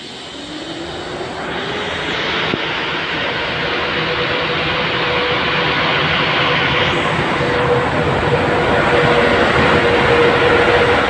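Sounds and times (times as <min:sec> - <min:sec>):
electric locomotive running: 0:00.0 - 0:11.0
locomotive whine: 0:00.0 - 0:11.0.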